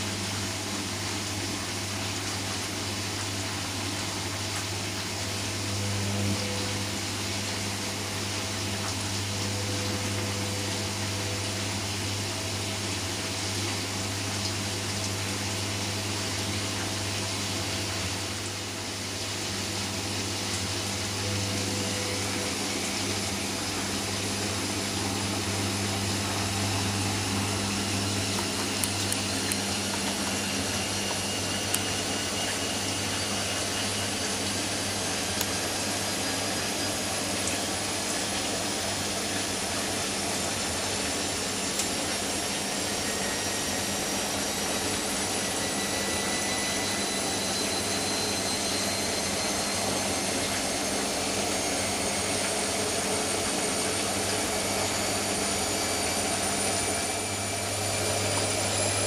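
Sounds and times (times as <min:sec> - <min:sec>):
water rushing in drum: 0:00.0 - 0:51.1
washing machine hum: 0:00.0 - 0:59.0
faint rising whine: 0:05.2 - 0:14.2, 0:15.3 - 0:59.0.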